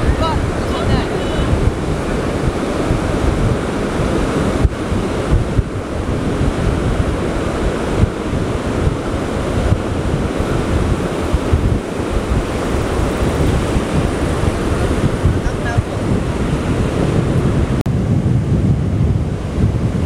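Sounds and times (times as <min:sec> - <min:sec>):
surf breaking on a beach: 0:00.0 - 0:20.0
wind buffeting the microphone: 0:00.0 - 0:20.0.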